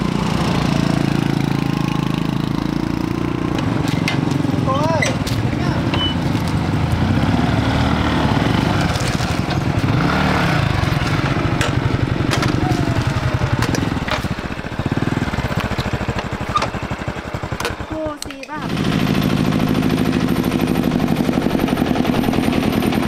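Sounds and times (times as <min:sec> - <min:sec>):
motorbike engine revving: 0:00.0 - 0:23.0
motorbike engines idling: 0:00.0 - 0:23.0.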